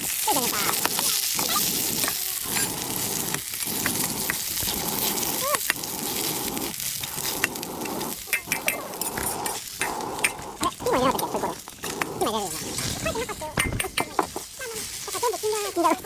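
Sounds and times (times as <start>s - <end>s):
meat sizzling in a wok: 0.0s - 12.7s, 13.7s - 16.0s.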